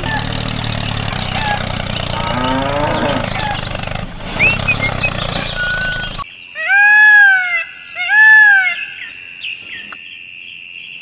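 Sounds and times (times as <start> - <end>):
animal calls: 0.0 - 9.1.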